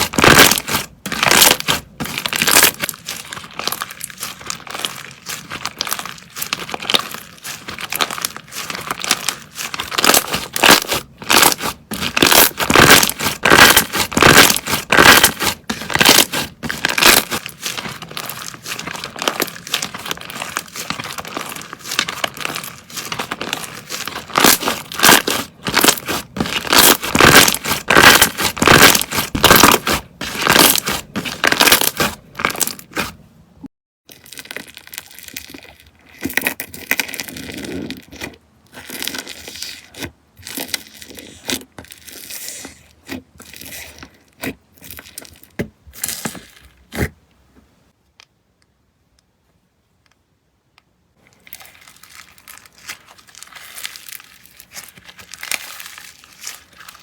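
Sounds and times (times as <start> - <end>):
slime crackling and popping: 0.0 - 33.2, 34.1 - 42.4, 51.3 - 57.0.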